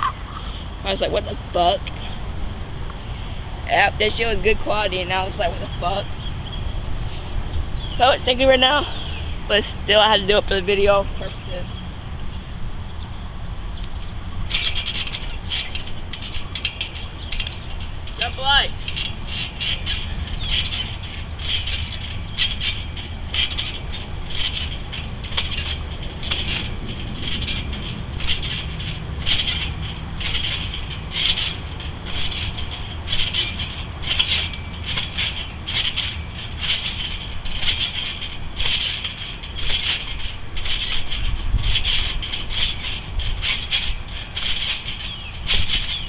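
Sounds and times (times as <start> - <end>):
steady low rumble: 0.0 - 46.0
trampoline springs creaking: 0.0 - 46.0.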